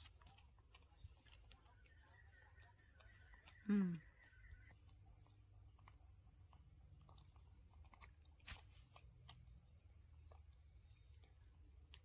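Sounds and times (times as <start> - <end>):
monkeys chewing fruit: 0.0 - 12.0.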